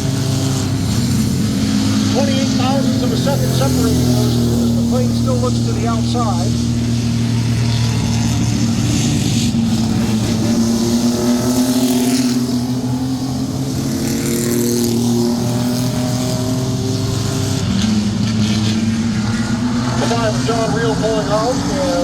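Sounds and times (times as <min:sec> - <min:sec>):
racing truck engines droning: 0:00.0 - 0:22.0.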